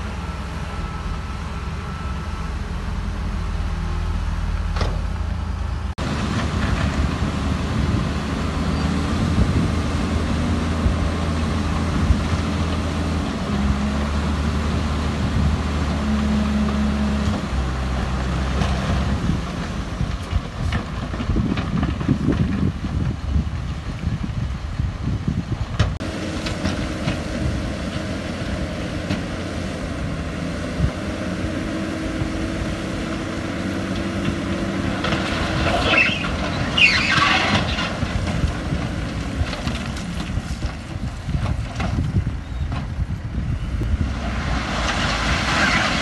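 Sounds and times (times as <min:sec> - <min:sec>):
diesel engine humming: 0:00.0 - 0:46.0.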